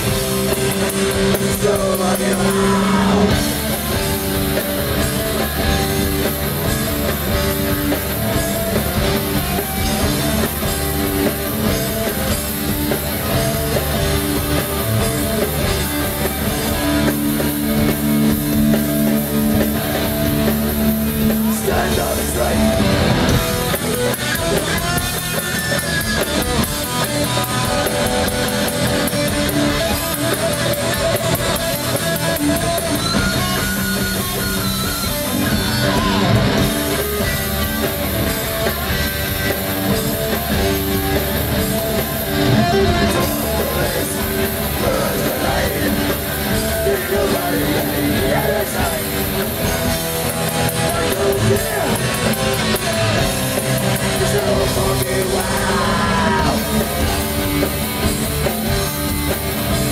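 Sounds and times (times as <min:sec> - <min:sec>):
distorted electric guitar: 0:00.0 - 0:59.9
drum kit: 0:00.0 - 0:59.9
electric bass: 0:00.0 - 0:59.9.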